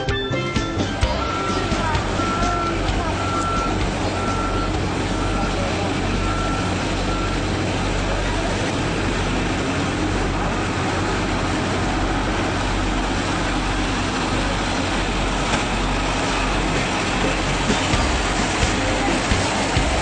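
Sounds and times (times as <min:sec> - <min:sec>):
road roller diesel engine running: 0:00.0 - 0:20.0.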